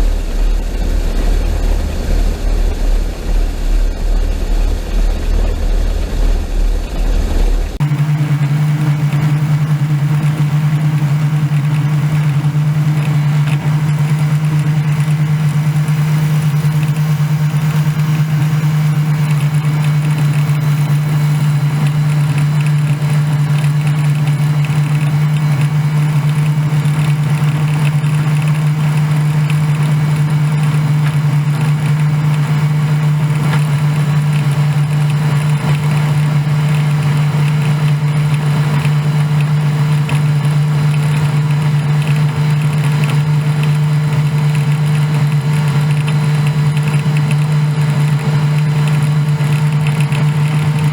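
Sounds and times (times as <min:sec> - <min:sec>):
combine harvester engine hum: 0:00.0 - 0:50.9.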